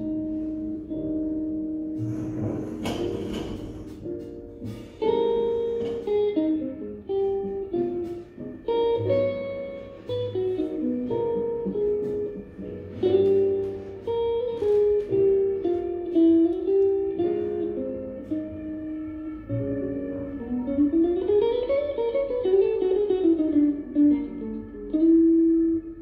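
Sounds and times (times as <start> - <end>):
plucked guitar melody: 0.0 - 26.0.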